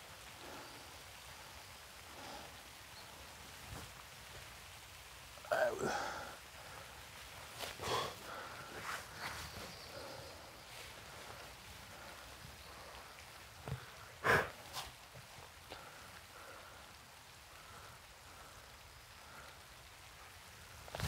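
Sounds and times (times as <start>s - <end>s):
light rain patter: 0.0s - 21.0s.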